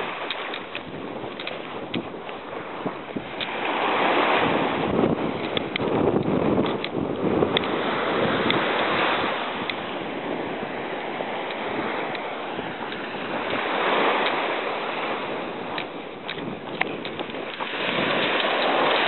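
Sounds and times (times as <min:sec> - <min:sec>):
small waves breaking on sand: 0:00.0 - 0:19.0.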